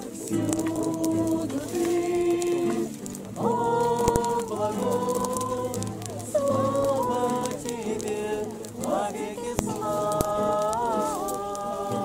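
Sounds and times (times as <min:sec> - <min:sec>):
acoustic guitar: 0:00.0 - 0:12.0
group singing a hymn: 0:00.0 - 0:12.0.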